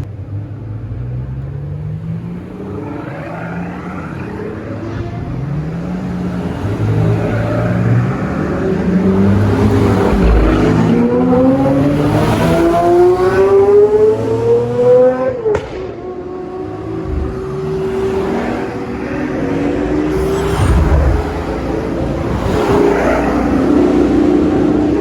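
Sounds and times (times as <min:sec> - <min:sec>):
other car engines running: 0:00.0 - 0:25.0
sports car engine accelerating: 0:00.0 - 0:25.0.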